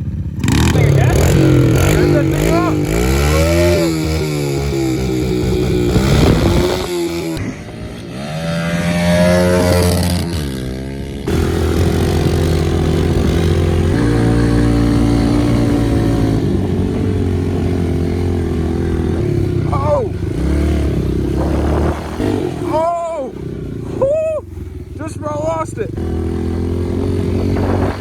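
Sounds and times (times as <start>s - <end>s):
pit bike engine revving: 0.0s - 28.0s.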